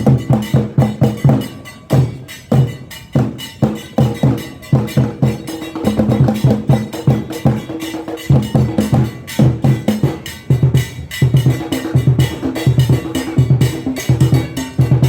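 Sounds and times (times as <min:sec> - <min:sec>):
percussion ensemble drumming: 0:00.0 - 0:15.0.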